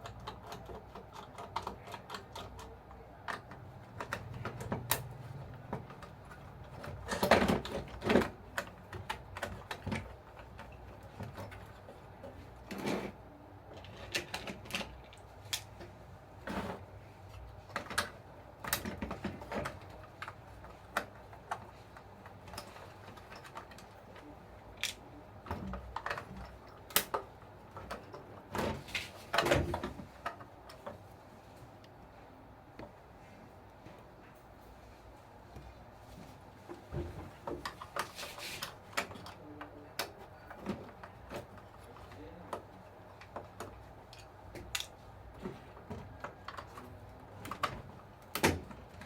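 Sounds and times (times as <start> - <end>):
plastic parts clicking and knocking: 0.0 - 13.1, 13.7 - 31.0, 36.7 - 49.0.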